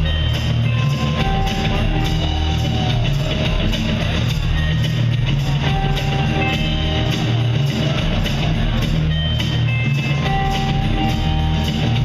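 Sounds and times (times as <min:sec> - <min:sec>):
bass guitar: 0:00.0 - 0:12.0
drum kit beat: 0:00.0 - 0:12.0.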